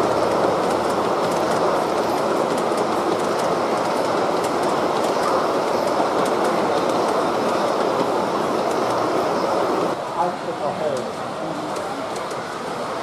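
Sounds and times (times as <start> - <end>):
model train wheels rumbling on rail: 0.0 - 13.0.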